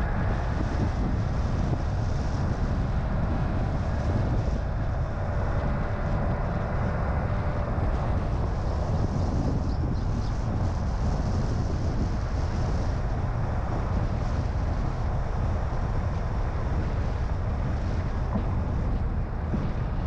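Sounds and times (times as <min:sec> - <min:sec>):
moving car road rumble: 0:00.0 - 0:20.0
wind noise: 0:00.0 - 0:20.0.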